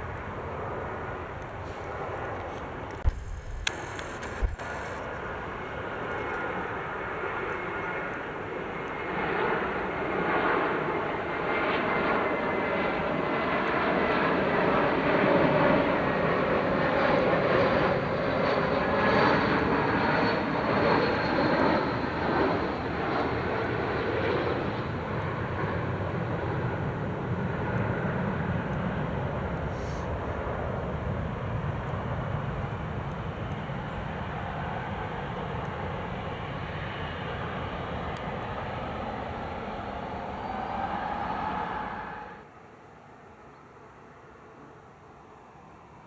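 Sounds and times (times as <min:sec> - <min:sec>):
jet airliner engines passing: 0:00.0 - 0:46.0.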